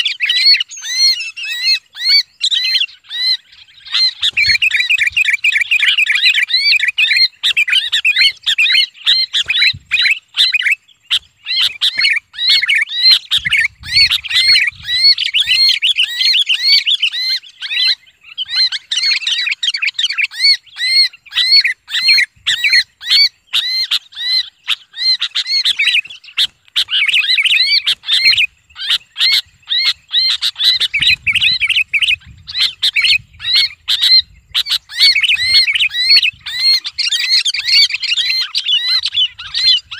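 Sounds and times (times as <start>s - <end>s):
bird distress screams: 0.0s - 39.9s.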